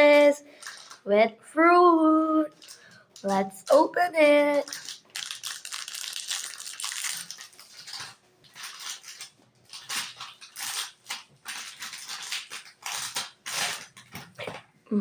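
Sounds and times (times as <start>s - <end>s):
packaging crinkling and rustling: 0.0s - 1.1s, 2.4s - 3.8s, 4.4s - 14.7s.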